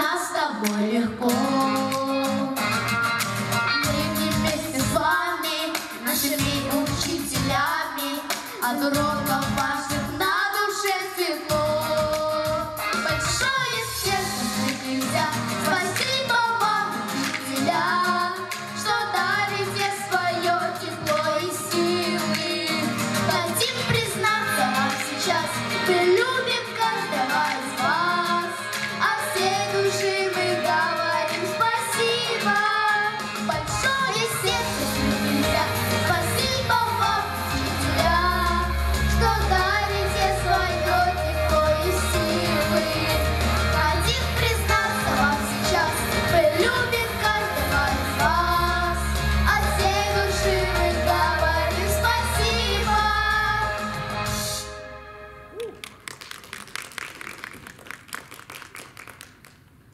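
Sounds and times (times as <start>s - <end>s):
accompanying music: 0.0s - 58.2s
children singing: 3.8s - 53.8s.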